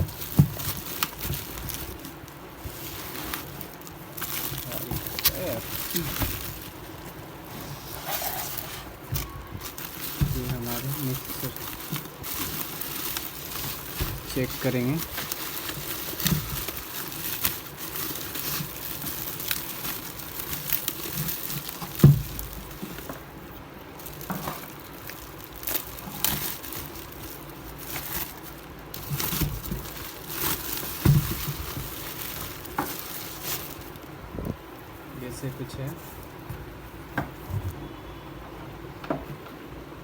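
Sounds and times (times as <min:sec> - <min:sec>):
packaging crinkling and rustling: 0:00.0 - 0:37.9.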